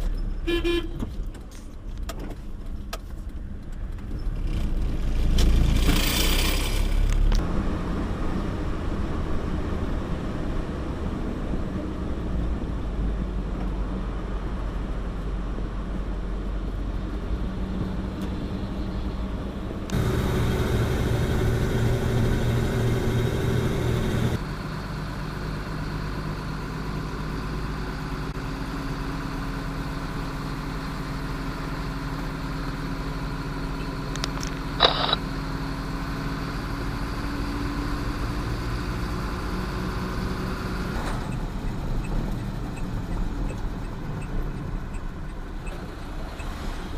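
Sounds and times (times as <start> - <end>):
road noise: 0.0 - 46.9
truck engine rumble: 1.0 - 46.9.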